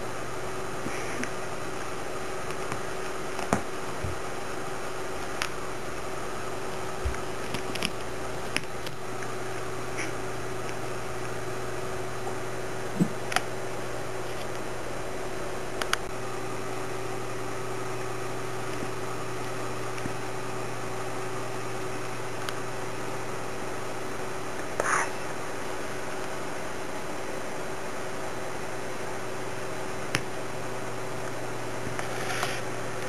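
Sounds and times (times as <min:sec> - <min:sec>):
low hum and hiss: 0:00.0 - 0:33.0.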